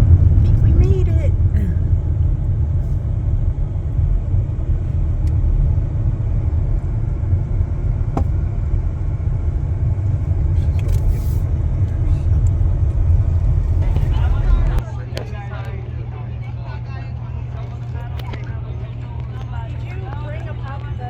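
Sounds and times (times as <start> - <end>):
loud low rumble: 0.0 - 21.0.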